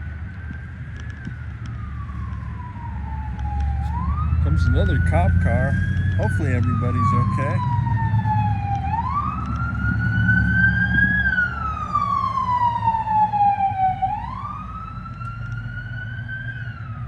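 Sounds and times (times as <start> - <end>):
police siren wailing: 0.0 - 17.0
vehicle engines rumbling: 0.0 - 17.0.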